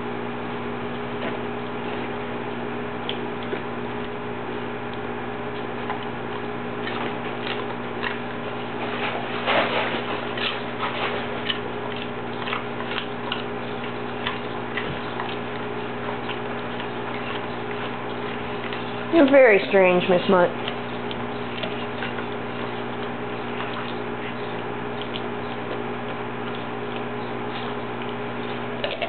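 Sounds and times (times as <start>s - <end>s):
dog chewing crunchy vegetable: 0.0s - 29.0s
steady low hum: 0.0s - 29.0s.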